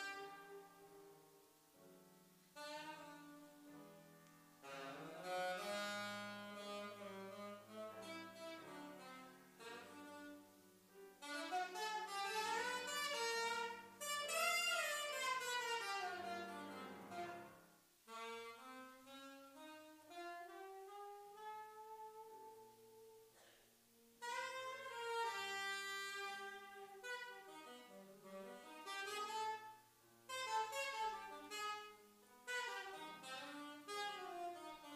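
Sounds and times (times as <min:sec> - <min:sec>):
grand piano accompaniment: 0:00.0 - 0:34.9
saxophone solo: 0:00.0 - 0:34.9.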